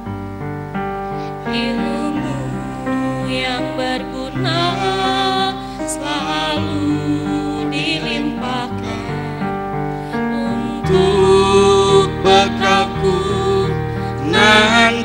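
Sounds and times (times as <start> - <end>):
instrumental accompaniment: 0.0 - 15.0
choir singing held notes: 1.1 - 15.0.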